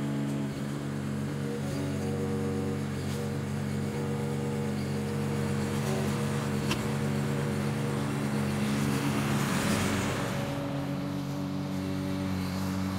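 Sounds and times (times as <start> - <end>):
lawn mower engine running: 0.0 - 12.9.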